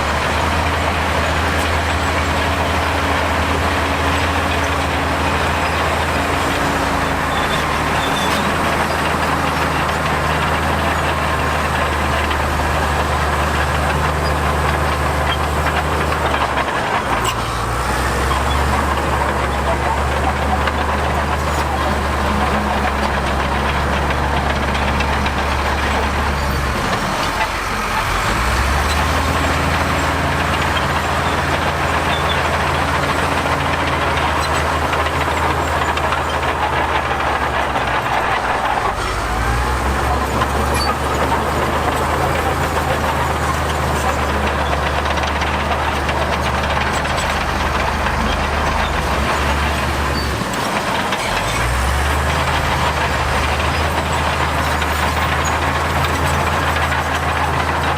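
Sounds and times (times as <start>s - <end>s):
heavy diesel machinery engines: 0.0s - 57.9s.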